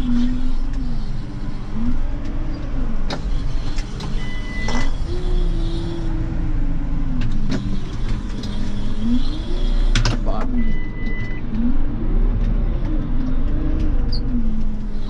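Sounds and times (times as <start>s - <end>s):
tractor engine revving: 0.0s - 15.0s.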